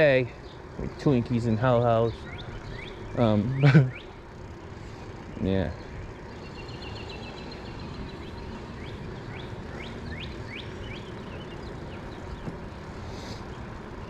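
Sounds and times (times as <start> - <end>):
low outdoor background noise: 0.0 - 14.0
songbird singing: 0.0 - 14.0.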